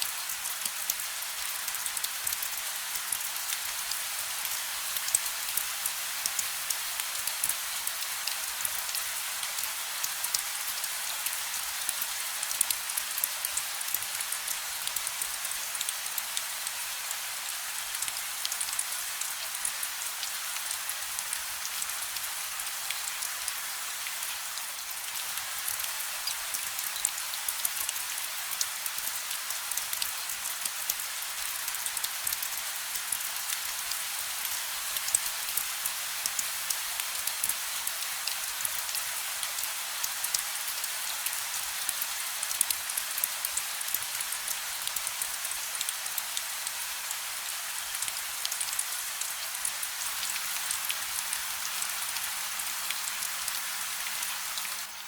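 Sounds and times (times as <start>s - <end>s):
raindrops pattering on a surface: 0.0s - 55.0s
steady gentle rain: 0.0s - 55.0s.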